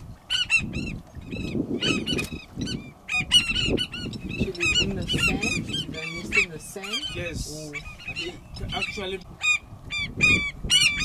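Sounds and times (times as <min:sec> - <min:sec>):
birds honking: 0:00.3 - 0:11.0.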